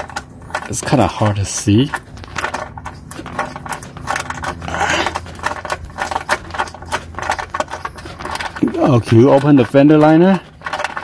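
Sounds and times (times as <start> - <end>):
metal scraping: 0.0 - 11.0
steady low hum: 0.0 - 11.0.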